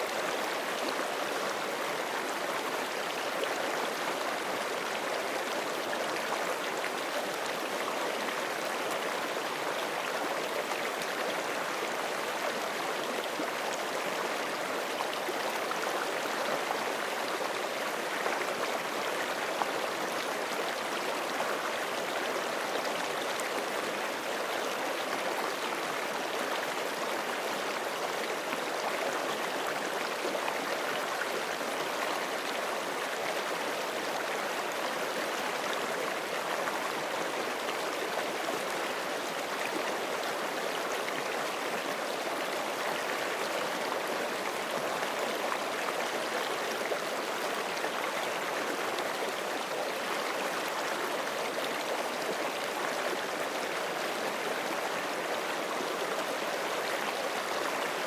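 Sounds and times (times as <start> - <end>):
creek flowing over rocks: 0.0 - 58.0.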